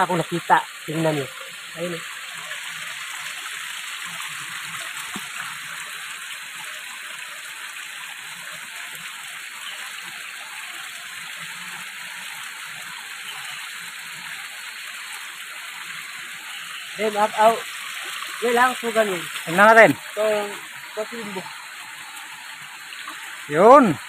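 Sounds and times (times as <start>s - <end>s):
water rushing over stones: 0.0s - 24.0s.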